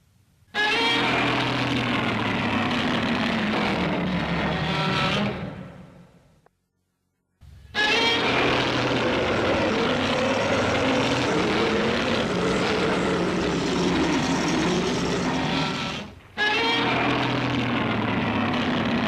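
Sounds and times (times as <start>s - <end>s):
engine-like roar: 1.0s - 6.0s, 7.8s - 19.0s.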